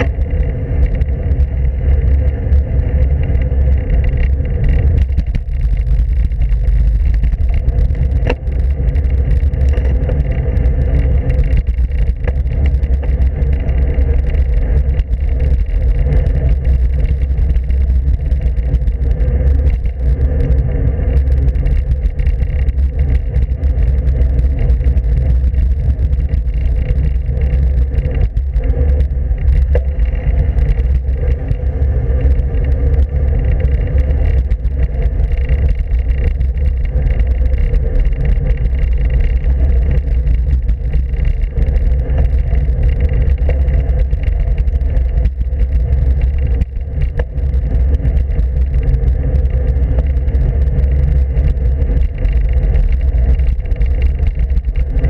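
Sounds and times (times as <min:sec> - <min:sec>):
road noise rumble: 0:00.0 - 0:55.0.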